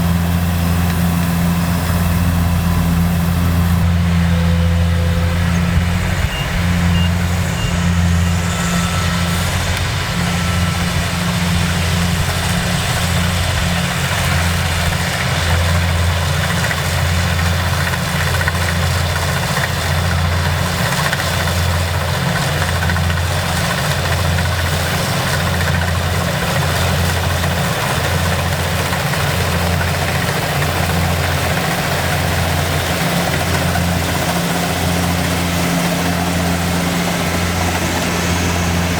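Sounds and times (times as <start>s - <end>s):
diesel engine throbbing: 0.0s - 38.9s.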